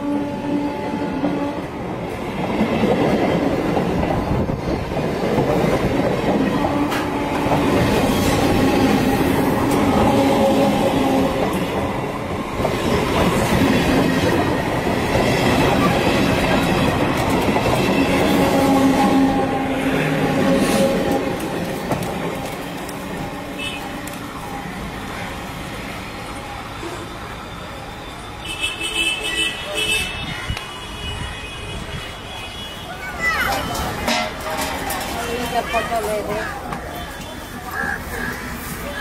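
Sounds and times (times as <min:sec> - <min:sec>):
train wheels running on rails: 0:00.0 - 0:29.9, 0:30.5 - 0:39.0.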